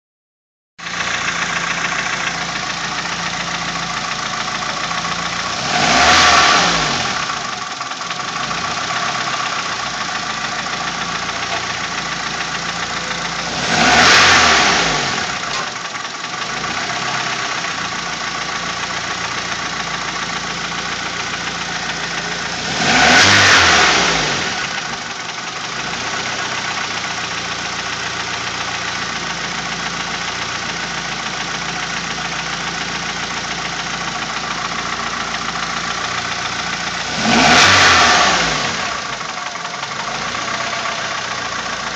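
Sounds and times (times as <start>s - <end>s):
car engine idling and revving: 0.8s - 41.9s.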